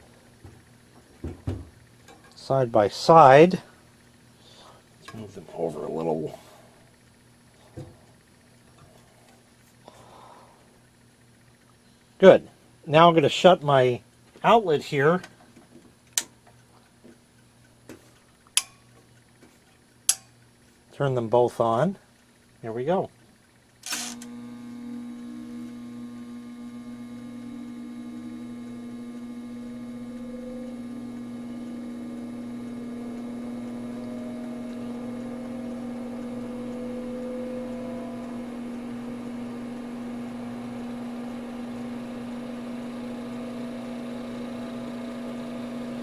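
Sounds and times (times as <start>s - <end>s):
fan motors humming: 0.0s - 46.0s.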